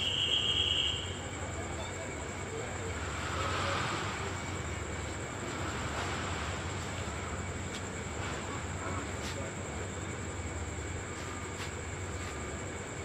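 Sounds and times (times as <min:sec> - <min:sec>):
diesel locomotive drone: 0:00.0 - 0:13.0.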